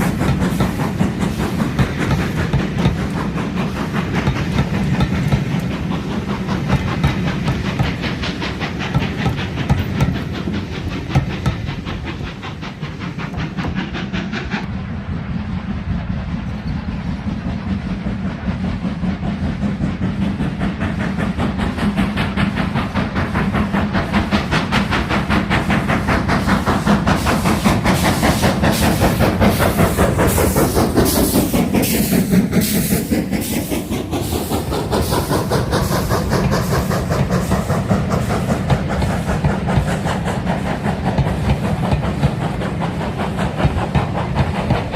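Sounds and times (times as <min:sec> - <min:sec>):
steam hissing: 0:00.0 - 0:44.9
train wheels clicking over rail joints: 0:00.0 - 0:44.9.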